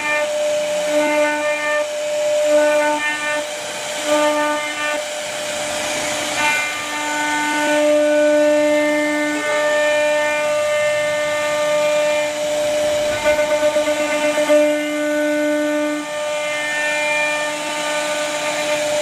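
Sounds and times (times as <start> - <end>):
hiss of wood cutting: 0.0 - 19.0
router spindle whining: 0.0 - 19.0.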